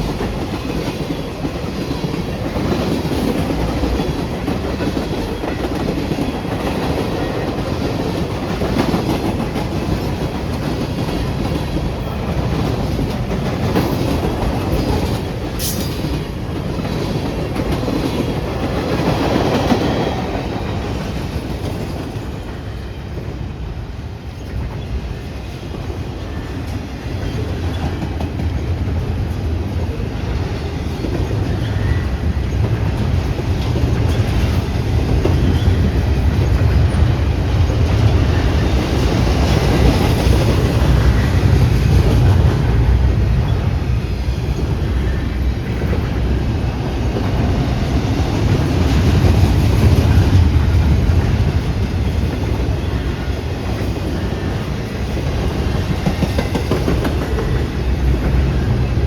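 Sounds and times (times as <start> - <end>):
train wheels clattering: 0.0 - 23.5, 24.4 - 59.0
low train rumble: 0.0 - 59.0.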